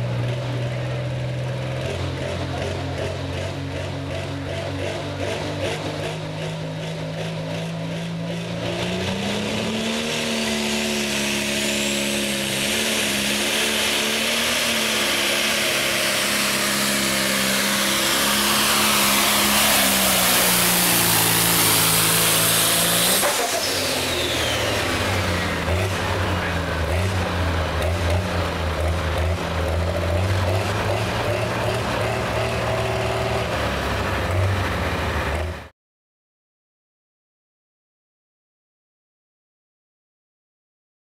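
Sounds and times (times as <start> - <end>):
tractor engine revving hard: 0.0 - 35.7.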